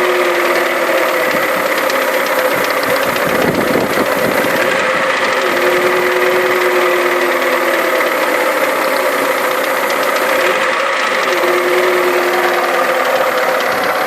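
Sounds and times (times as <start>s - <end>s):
engine running with clicking chatter: 0.0s - 14.0s.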